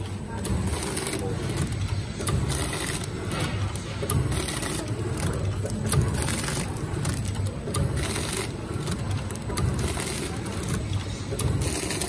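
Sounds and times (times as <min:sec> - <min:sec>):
low mechanical hum: 0:00.0 - 0:12.0
packing machine clicks: 0:00.0 - 0:12.0.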